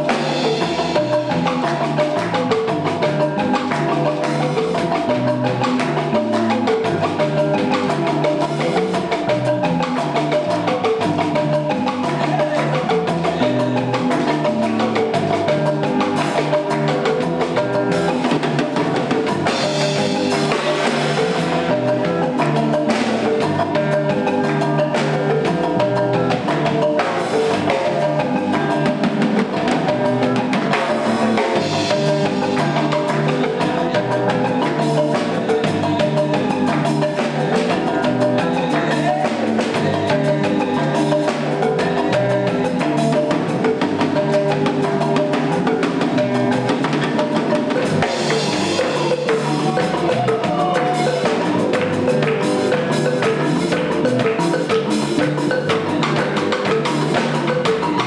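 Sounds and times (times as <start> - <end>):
drum kit beat: 0.0 - 58.0
electric bass: 0.0 - 58.0
marimba mallet notes: 0.0 - 58.0.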